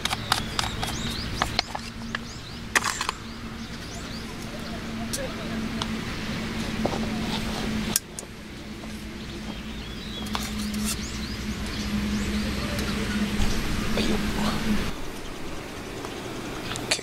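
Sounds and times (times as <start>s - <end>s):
steady low hum: 0.0s - 17.0s
wind rumbling on microphone: 0.0s - 17.0s.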